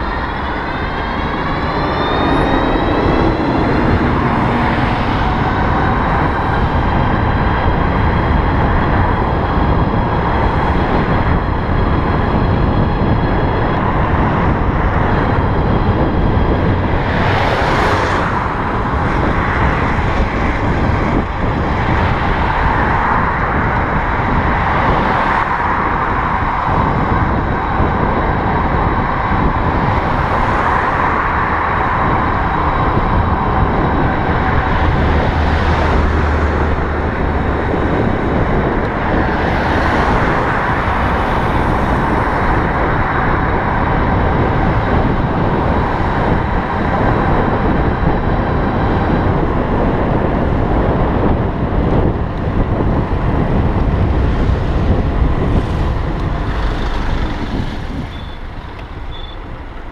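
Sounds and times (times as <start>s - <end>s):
passing traffic: 0.0s - 59.9s
wind and road noise: 0.0s - 59.9s.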